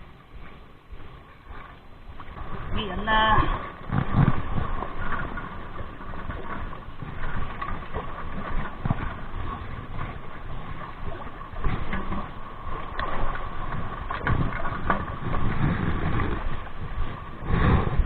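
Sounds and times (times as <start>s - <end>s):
wind rumbling on microphone: 0.0s - 18.0s
fishing gear rustling and knocking: 3.4s - 18.0s.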